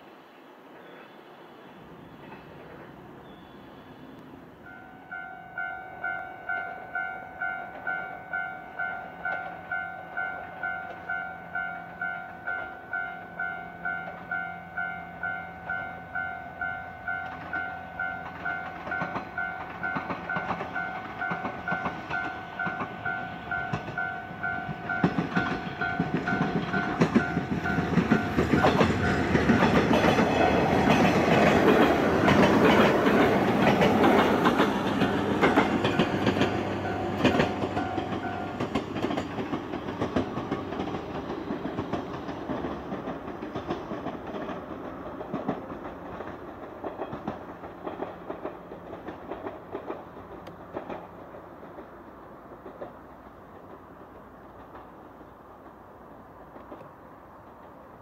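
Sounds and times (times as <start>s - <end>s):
train wheels clacking on rails: 2.1s - 58.0s.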